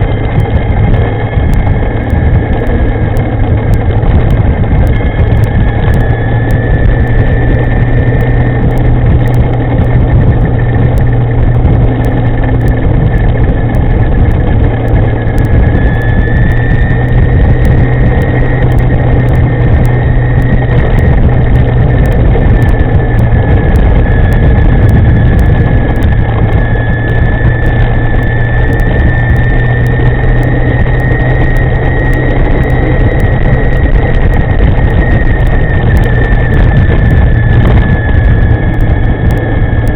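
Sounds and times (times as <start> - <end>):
electric motor whine: 0.0 - 39.9
wind noise on microphone: 0.0 - 39.9.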